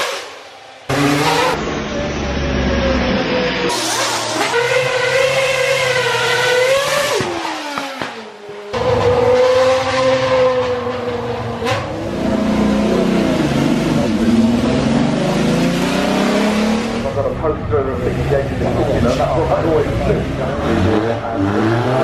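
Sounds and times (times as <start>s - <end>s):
racing car engine revving: 0.0s - 22.0s.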